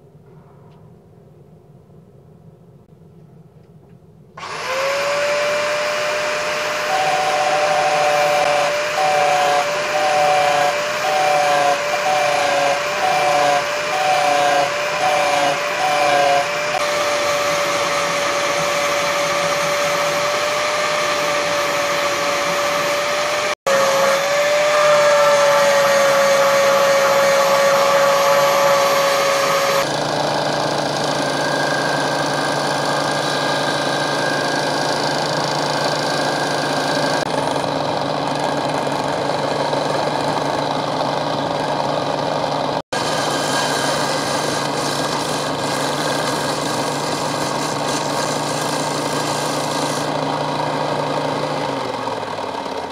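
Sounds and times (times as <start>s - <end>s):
belt grinder grinding steel: 4.4s - 42.1s, 42.9s - 52.9s
angle grinder cutting steel: 4.4s - 52.9s.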